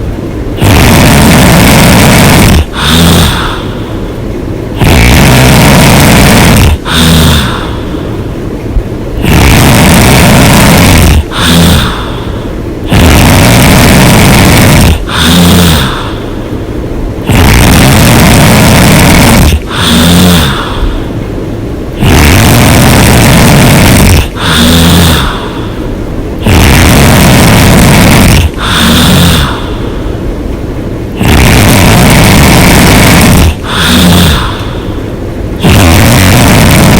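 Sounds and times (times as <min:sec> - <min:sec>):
person snoring loudly: 0:00.6 - 0:04.0, 0:04.7 - 0:08.2, 0:09.2 - 0:16.5, 0:17.2 - 0:21.2, 0:21.9 - 0:30.2, 0:31.1 - 0:35.0, 0:35.6 - 0:36.9
low-pitched breath sound: 0:00.6 - 0:08.5, 0:09.2 - 0:21.4, 0:22.0 - 0:30.4, 0:31.1 - 0:36.9.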